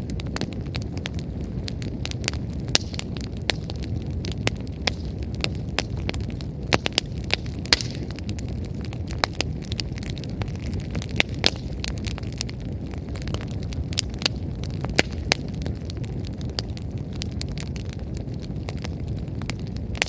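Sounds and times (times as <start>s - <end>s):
firewood crackling and popping: 0.0s - 20.0s
low rush of flame: 0.0s - 20.0s.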